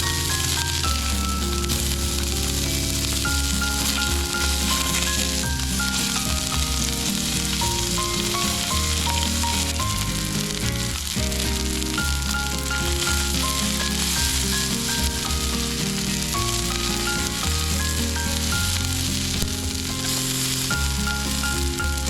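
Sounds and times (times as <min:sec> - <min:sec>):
background music: 0:00.0 - 0:22.0
steak sizzling in a pan: 0:00.0 - 0:22.0.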